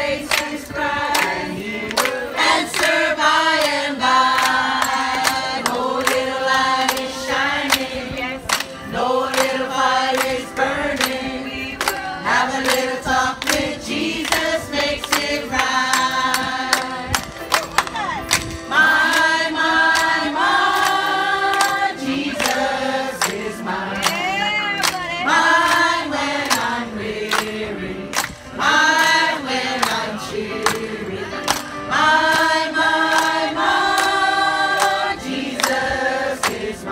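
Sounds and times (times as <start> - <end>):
group singing through speaker: 0.0 - 17.5, 18.3 - 36.9.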